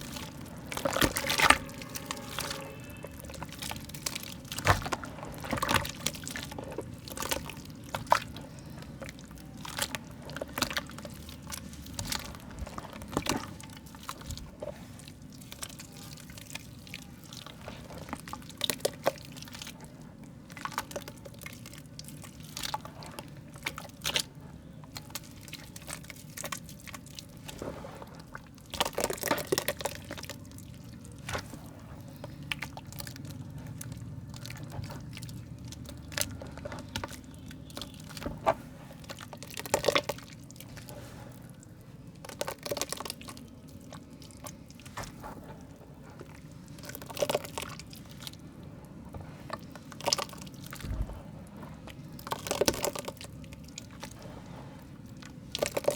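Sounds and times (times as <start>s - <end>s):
soft mud crumbling: 0.0s - 55.9s.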